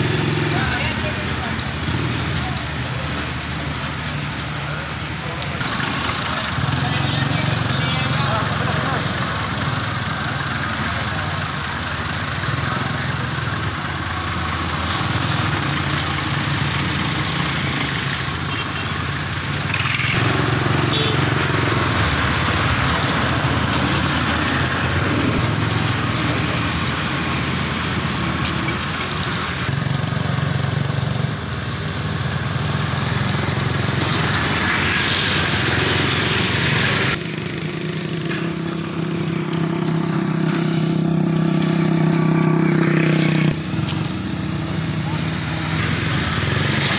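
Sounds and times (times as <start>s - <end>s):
small petrol engine running: 0.0s - 46.9s.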